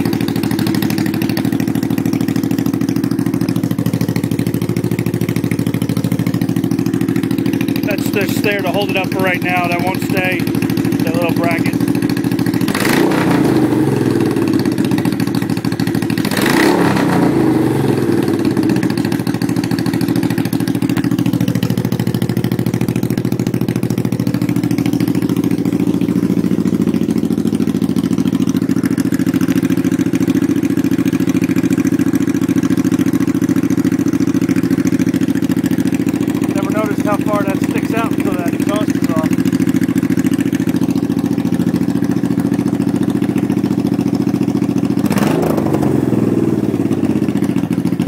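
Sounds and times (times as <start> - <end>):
motorcycle engine revving and idling: 0.0 - 48.0.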